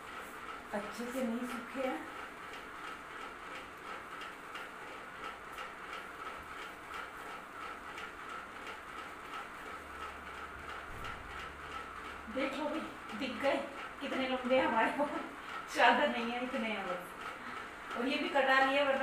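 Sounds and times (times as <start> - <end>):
ceiling fan whirring: 0.0 - 19.0
fan ticking: 0.0 - 19.0.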